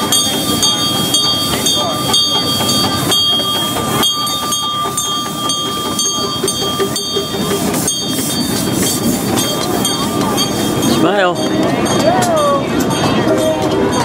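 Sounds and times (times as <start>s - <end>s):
high-pitched ringing tones: 0.0s - 14.0s
wheels rumbling on rails: 0.0s - 14.0s.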